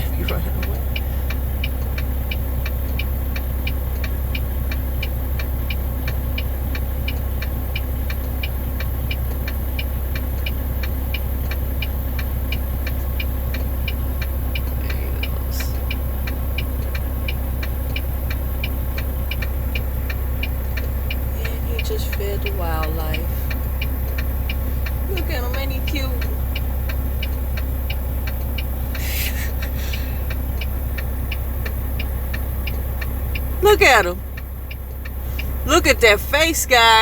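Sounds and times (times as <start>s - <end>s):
car engine idling: 0.0s - 37.0s
rapid ticking: 0.0s - 37.0s.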